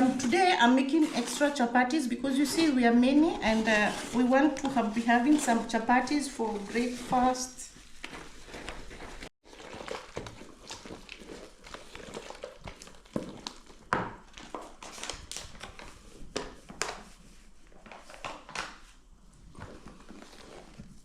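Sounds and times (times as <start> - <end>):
hands kneading dough: 0.0 - 21.0.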